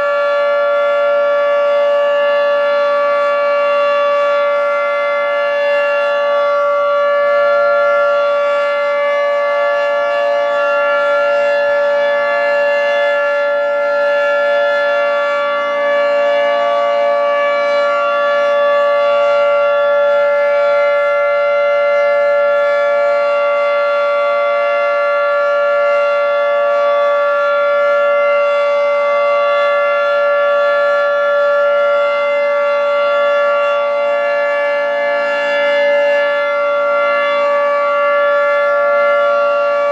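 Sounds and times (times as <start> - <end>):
dual-tone warning siren: 0.0 - 39.9.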